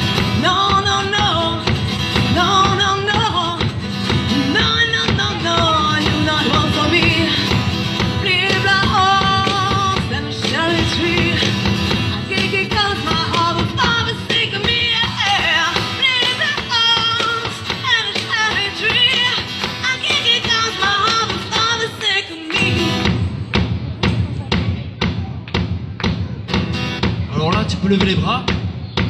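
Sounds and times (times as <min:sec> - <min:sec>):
acoustic guitar: 0:00.0 - 0:25.1, 0:25.7 - 0:29.0.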